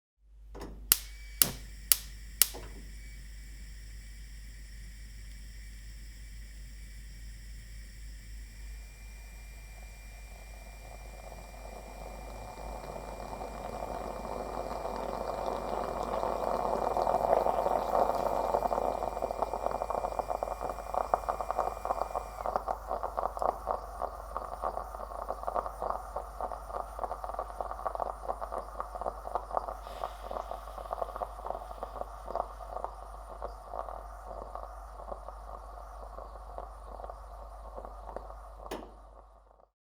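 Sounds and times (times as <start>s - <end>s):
moka pot hissing and gurgling: 0.9s - 39.7s.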